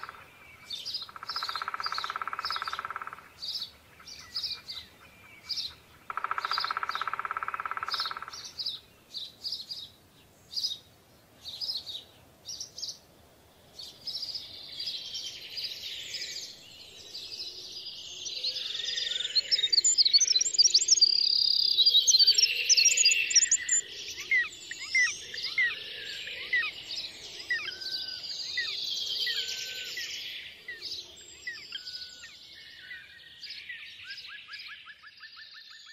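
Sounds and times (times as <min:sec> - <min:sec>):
songbirds chirping and singing: 0:00.0 - 0:35.9.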